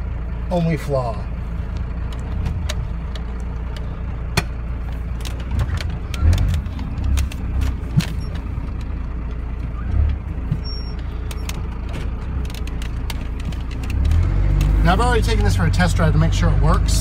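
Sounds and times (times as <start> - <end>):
diesel engine rumbling: 0.0 - 17.0
clicks and light rattles: 1.7 - 15.6.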